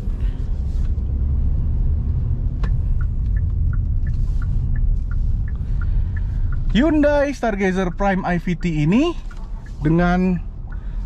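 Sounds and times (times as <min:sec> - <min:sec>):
car cabin rumble: 0:00.0 - 0:11.0
turn signal ticking: 0:00.1 - 0:11.0.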